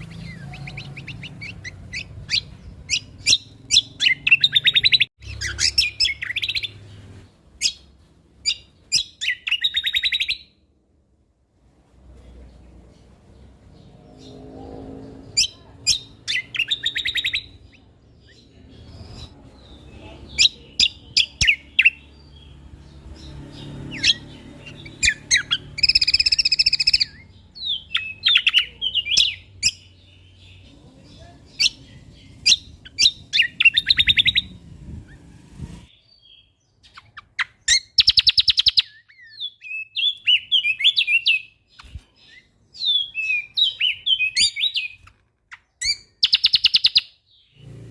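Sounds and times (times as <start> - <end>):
songbird chirping and trilling: 0.0 - 11.0, 11.6 - 47.9.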